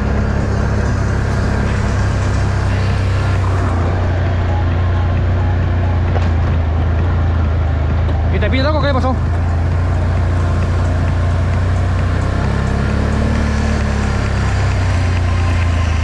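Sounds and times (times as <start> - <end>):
atv engine droning: 0.0 - 16.0.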